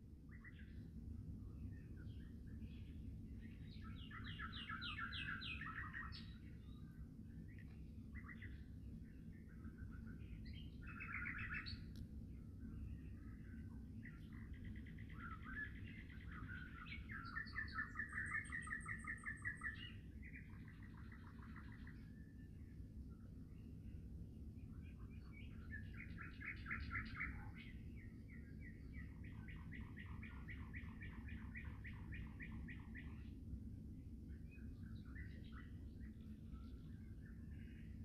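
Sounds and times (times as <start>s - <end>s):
low steady rumble: 0.0s - 38.0s
songbirds singing trills: 0.0s - 38.0s.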